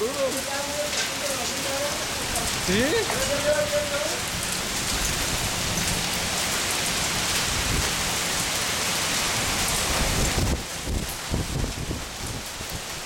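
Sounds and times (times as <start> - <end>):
heavy rain on concrete: 0.0 - 13.0.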